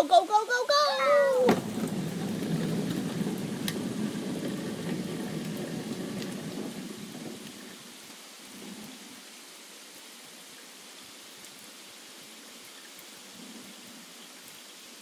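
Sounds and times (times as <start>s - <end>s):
raindrops ticking: 0.0s - 14.8s
steady rain hiss: 0.0s - 15.0s.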